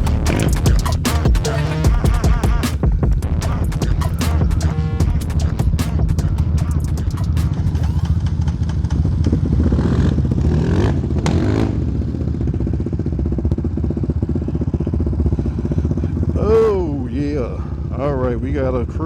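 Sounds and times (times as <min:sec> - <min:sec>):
quad engines running: 0:00.0 - 0:19.0.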